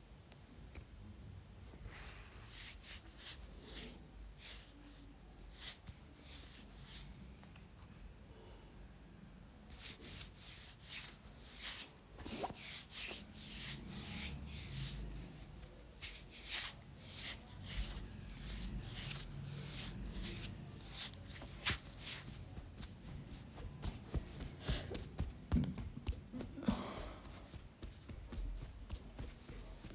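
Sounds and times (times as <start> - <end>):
hands rubbing skin and clothing: 1.9 - 7.6, 9.7 - 26.4, 27.2 - 29.9.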